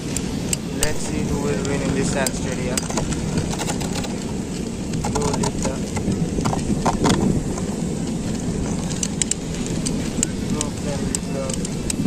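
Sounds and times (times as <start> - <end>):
sharp clicks and ticks: 0.1 - 12.0.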